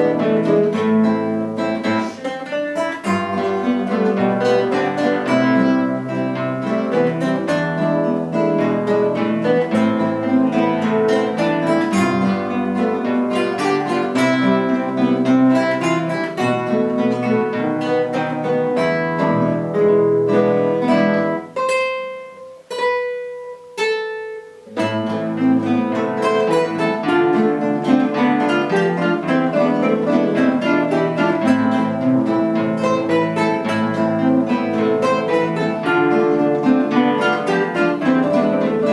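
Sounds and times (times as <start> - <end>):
guitar ensemble playing: 0.0 - 38.9.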